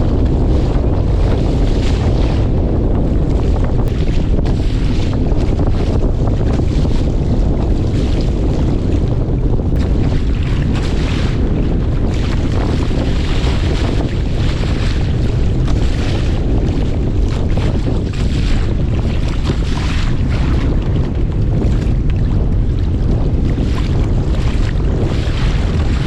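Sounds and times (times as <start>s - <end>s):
sea water splashing: 0.0s - 26.0s
wind buffeting microphone: 0.0s - 26.0s.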